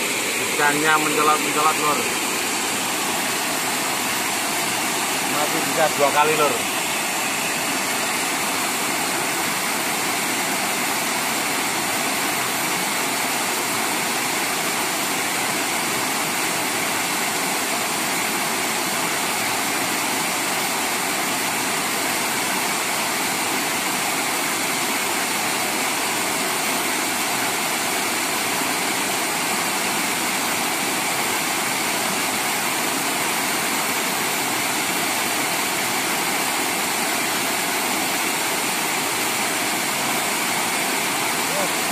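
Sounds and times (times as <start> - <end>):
waterfall pouring into pool: 0.0 - 41.9.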